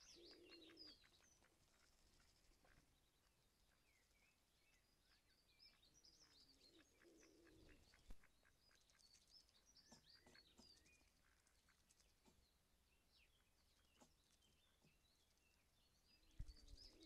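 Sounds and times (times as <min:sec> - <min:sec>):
songbird chirps: 0:00.0 - 0:17.0.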